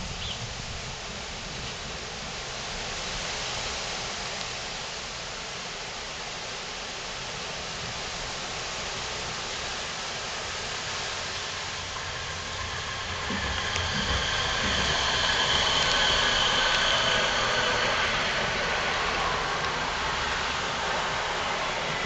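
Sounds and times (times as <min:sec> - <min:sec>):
heavy rain hissing: 0:00.0 - 0:22.0.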